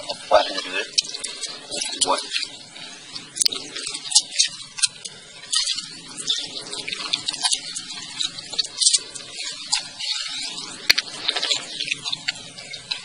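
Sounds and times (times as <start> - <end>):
wet mud smacking and crackling: 0.0 - 13.0.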